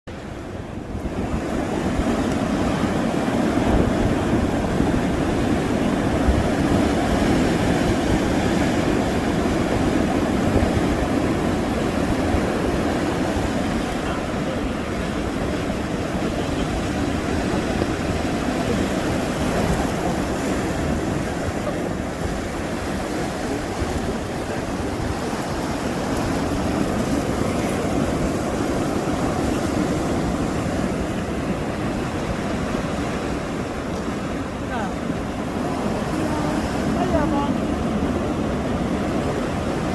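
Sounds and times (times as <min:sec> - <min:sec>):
sea waves: 0:00.0 - 0:39.9
wind buffeting microphone: 0:00.1 - 0:39.9.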